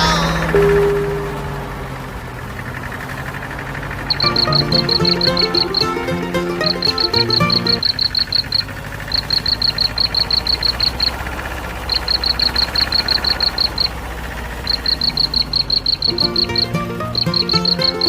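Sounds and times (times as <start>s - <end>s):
high chirps in fast trains: 0.0s - 18.0s.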